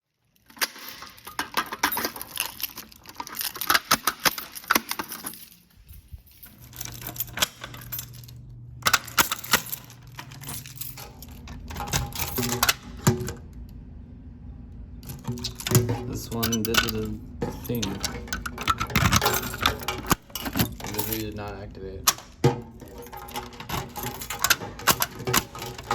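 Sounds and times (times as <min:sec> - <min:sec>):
low steady hum: 0:00.2 - 0:25.9
metallic jangling and clicking: 0:00.4 - 0:13.3, 0:15.0 - 0:25.9.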